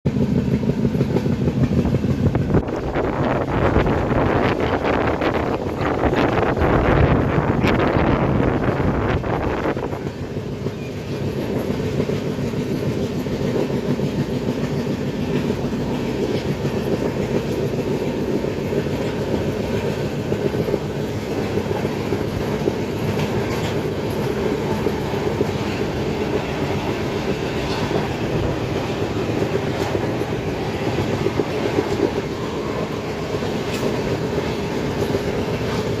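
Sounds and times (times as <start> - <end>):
train rumbling on rails: 0.0 - 36.0
wheels clacking over rail joints: 0.1 - 36.0.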